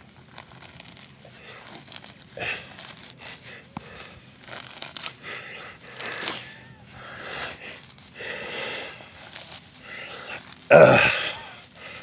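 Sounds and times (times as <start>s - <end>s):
grass being torn up by hand: 0.0s - 12.0s
man breathing heavily: 1.2s - 12.0s.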